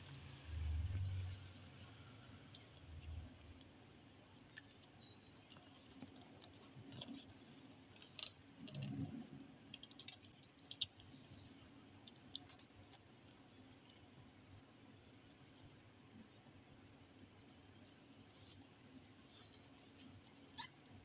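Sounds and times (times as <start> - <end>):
kittens nursing clicks and smacks: 0.0 - 21.0.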